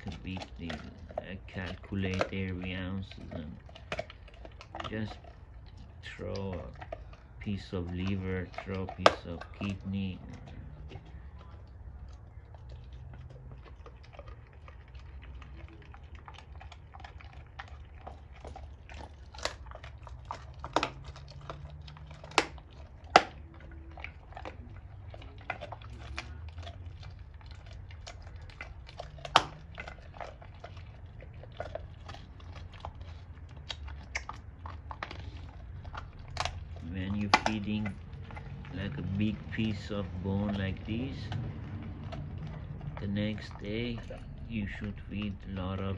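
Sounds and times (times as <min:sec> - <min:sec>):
dog chewing a bone: 0:00.0 - 0:45.9
teeth cracking on bone: 0:00.0 - 0:45.9.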